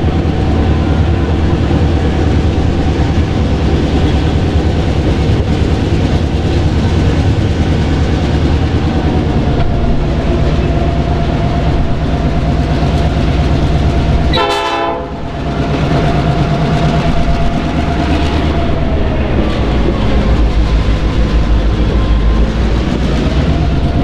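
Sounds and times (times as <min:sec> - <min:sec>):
train heavy rumble: 0:00.0 - 0:24.0.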